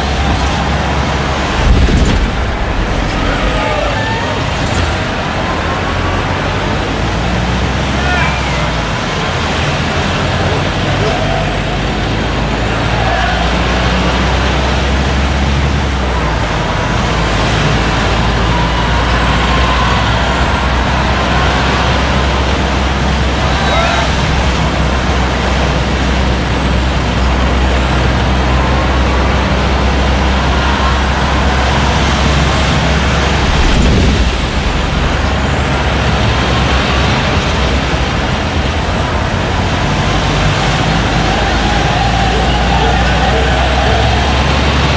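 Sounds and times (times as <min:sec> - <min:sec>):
diesel truck engine running: 0:00.0 - 0:44.9
road and wind noise: 0:00.0 - 0:44.9.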